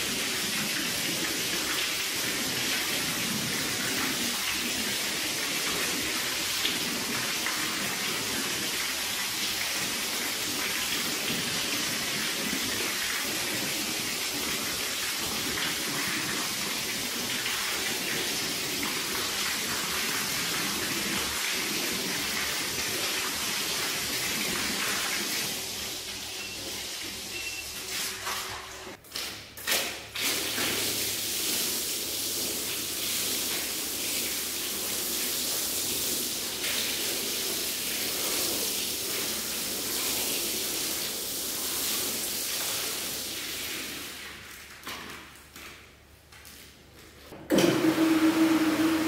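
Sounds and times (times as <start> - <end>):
water spraying onto rug: 0.0 - 26.0, 30.2 - 44.9.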